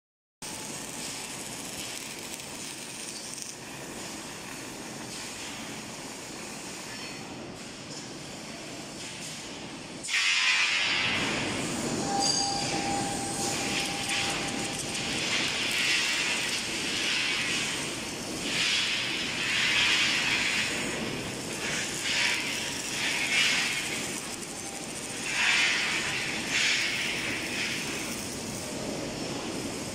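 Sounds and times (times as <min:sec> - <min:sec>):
electric arc welding: 0:00.4 - 0:06.6, 0:10.0 - 0:12.0, 0:12.8 - 0:28.9
hissing factory noise: 0:00.4 - 0:29.9.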